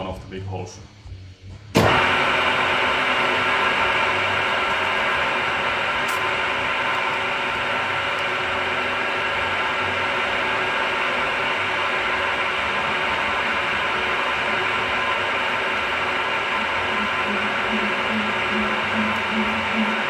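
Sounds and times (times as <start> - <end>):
milling machine with gear whine: 1.6 - 20.0.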